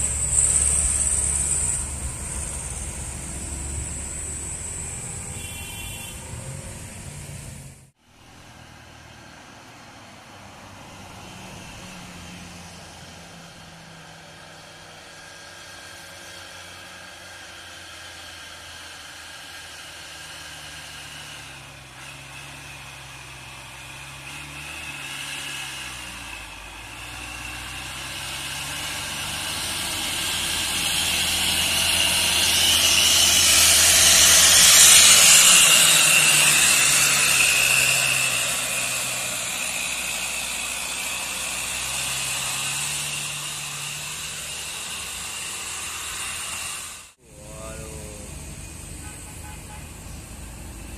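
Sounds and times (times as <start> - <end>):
diesel truck engine labouring uphill: 0.0 - 50.9.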